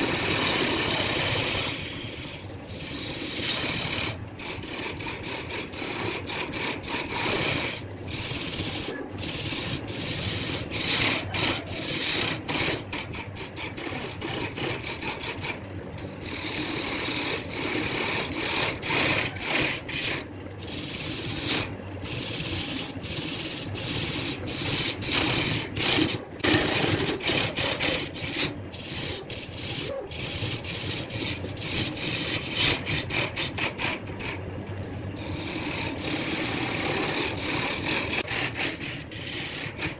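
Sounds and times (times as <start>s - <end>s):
lathe low hum: 0.0s - 39.9s
lathe tool rasping and scraping wood: 0.0s - 39.9s.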